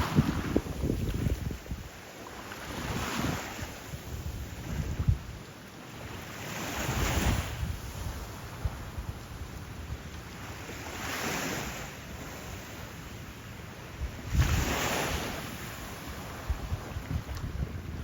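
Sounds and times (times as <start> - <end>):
wind buffeting microphone: 0.0 - 2.0, 2.6 - 5.4, 6.6 - 12.6, 13.9 - 18.0
waves washing onto sand: 0.0 - 18.0.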